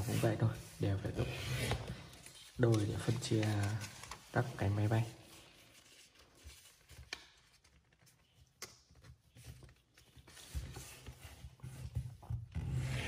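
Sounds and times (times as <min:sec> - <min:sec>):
paper rustling while folded: 0:00.0 - 0:13.0.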